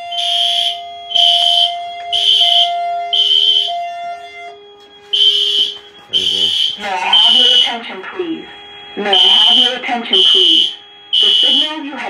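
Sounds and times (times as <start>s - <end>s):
pulsing high alarm tone: 0.0s - 12.0s
steady lower tones: 0.0s - 12.0s.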